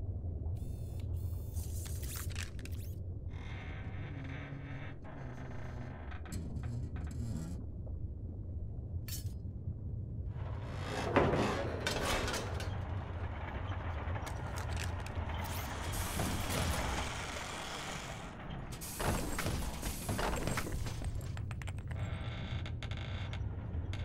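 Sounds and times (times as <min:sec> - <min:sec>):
steady low rumble: 0:00.0 - 0:04.8, 0:05.9 - 0:20.6
mechanical clanking and creaking: 0:01.0 - 0:07.8, 0:10.4 - 0:24.0.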